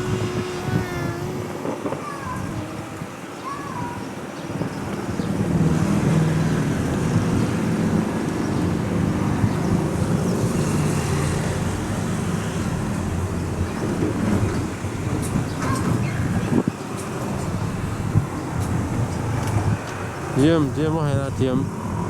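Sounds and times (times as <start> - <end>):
diesel locomotive engine droning: 0.0 - 3.4, 4.5 - 22.0.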